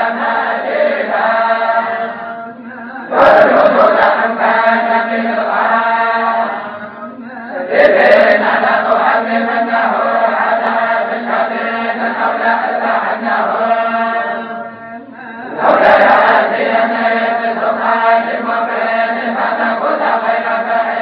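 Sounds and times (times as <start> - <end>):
male voices chanting in unison: 0.0 - 21.0.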